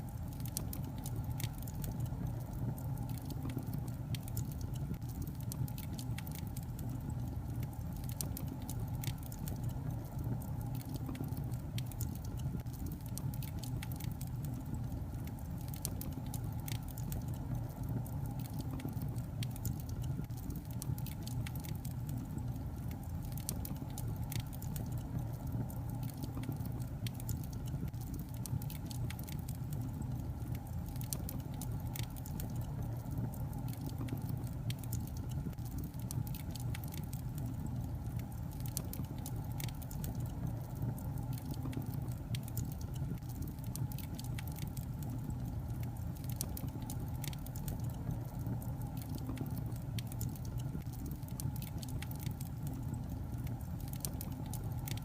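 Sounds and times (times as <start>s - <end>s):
wood fire crackling in a fireplace: 0.0s - 55.0s.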